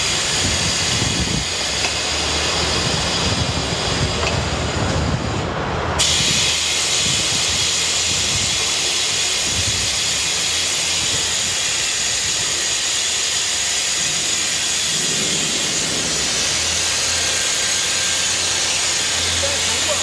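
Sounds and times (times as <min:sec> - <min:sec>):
machinery hissing: 0:00.0 - 0:20.0.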